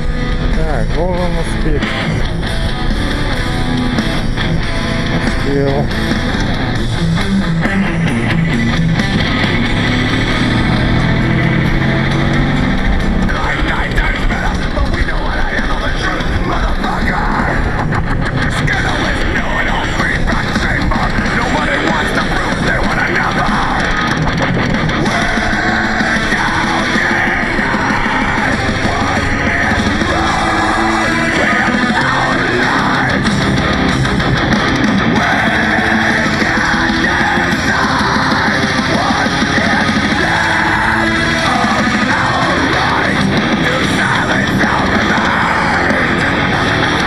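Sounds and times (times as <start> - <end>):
heavy rock music with electric guitars: 0.0 - 47.0.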